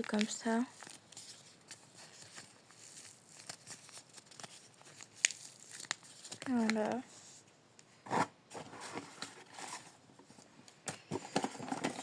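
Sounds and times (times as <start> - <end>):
small items rustling and tapping: 0.0 - 7.0, 8.1 - 12.0.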